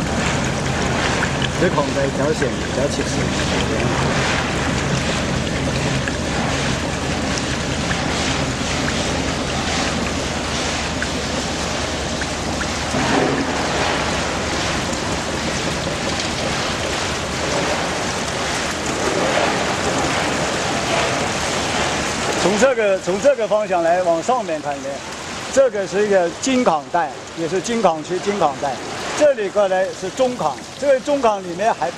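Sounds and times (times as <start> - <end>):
wash water streaming: 0.0 - 31.9.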